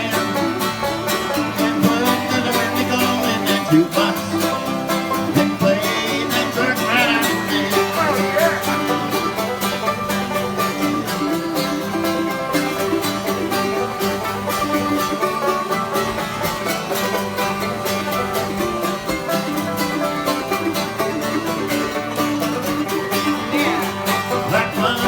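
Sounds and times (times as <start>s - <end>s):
plucked string trio playing: 0.0s - 25.0s.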